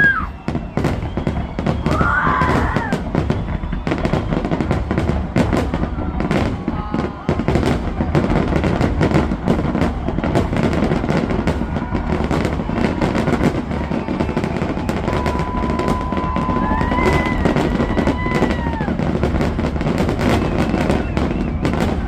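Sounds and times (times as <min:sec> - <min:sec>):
fireworks bangs and crackles: 0:00.0 - 0:22.0
high firework whistle: 0:00.0 - 0:22.0.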